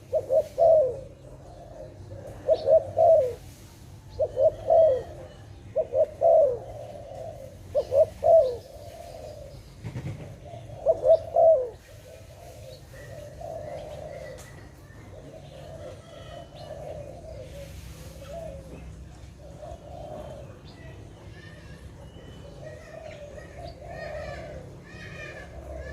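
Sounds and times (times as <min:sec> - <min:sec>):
birds chirping: 0:00.0 - 0:25.9
dove cooing: 0:00.0 - 0:25.9.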